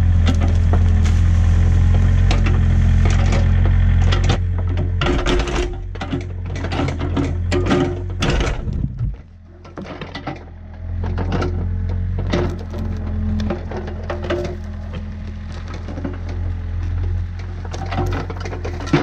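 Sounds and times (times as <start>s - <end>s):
bucket crackling in dirt and roots: 0.0s - 19.0s
excavator engine running: 0.0s - 19.0s.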